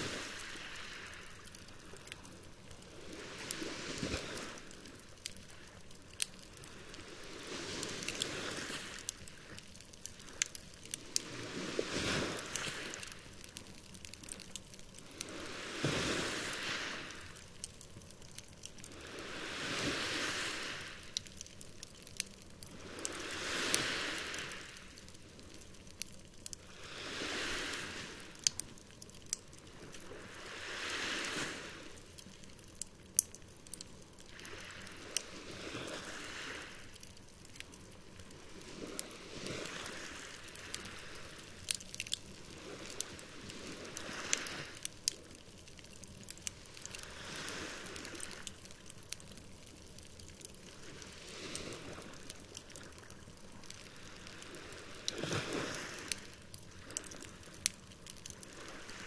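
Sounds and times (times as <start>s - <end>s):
campfire crackling and popping: 0.0s - 59.0s
sea waves rolling in: 0.0s - 59.0s.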